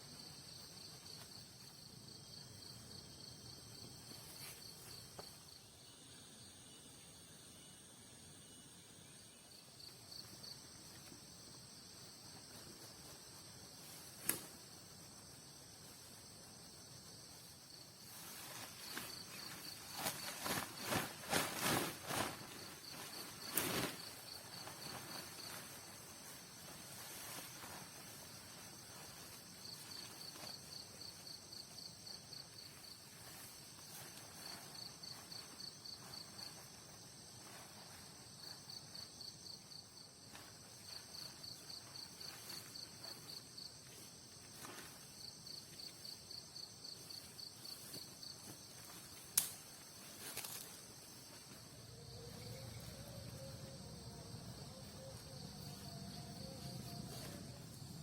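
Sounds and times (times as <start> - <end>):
insects chirping in pulses: 0.0 - 58.0
steady high insect hum: 0.0 - 58.0.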